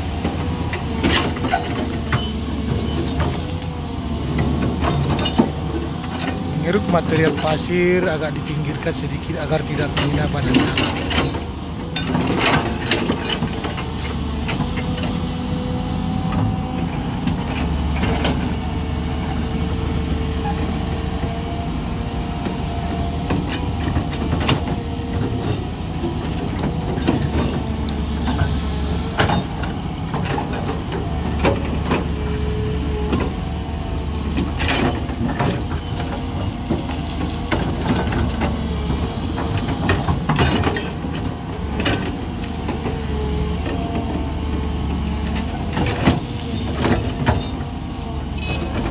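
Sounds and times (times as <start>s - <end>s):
diesel engine drone: 0.0s - 48.9s.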